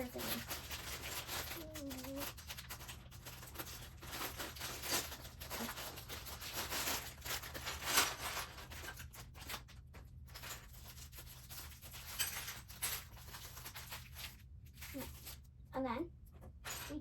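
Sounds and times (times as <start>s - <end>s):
plastic bricks rustling and scraping: 0.0s - 15.5s.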